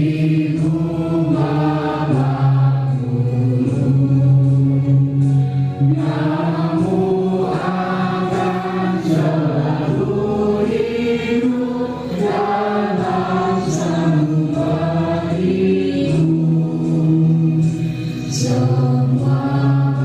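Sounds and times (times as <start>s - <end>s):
choir singing long notes: 0.0s - 20.0s.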